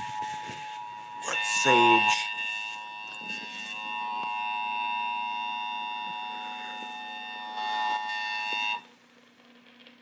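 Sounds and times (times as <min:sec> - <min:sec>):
two-tone alarm tone: 0:00.0 - 0:08.9.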